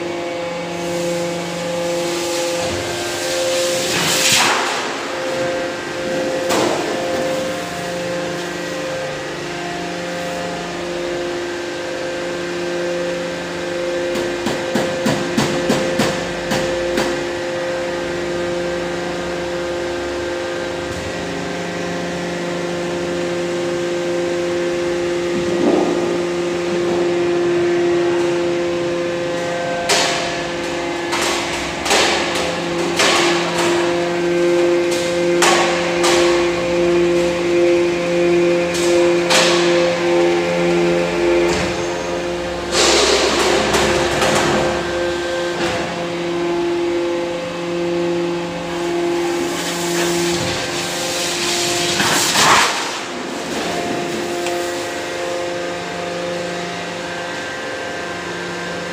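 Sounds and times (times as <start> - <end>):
hydraulic power unit humming: 0.0 - 58.9.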